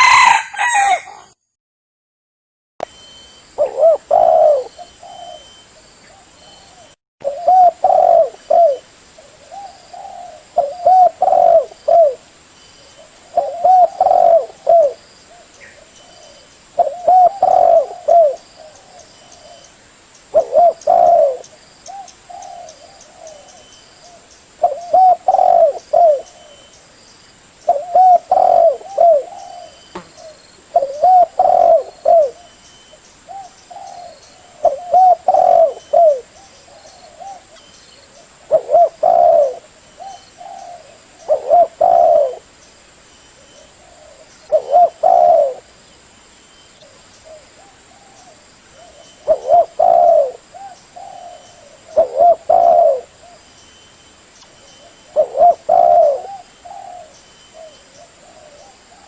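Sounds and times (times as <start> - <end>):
dove cooing: 0.0 - 1.4, 3.6 - 12.2, 13.0 - 19.6, 20.3 - 26.6, 27.7 - 32.6, 33.3 - 42.5, 43.4 - 45.7, 46.8 - 53.5, 54.8 - 59.0.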